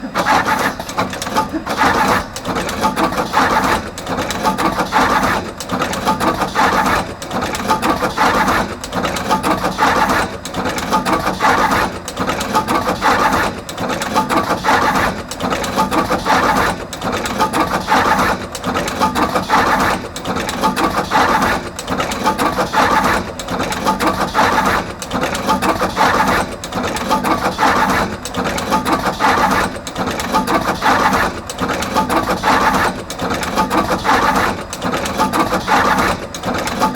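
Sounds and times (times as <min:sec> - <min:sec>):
crimping machine cycling: 0:00.0 - 0:36.9.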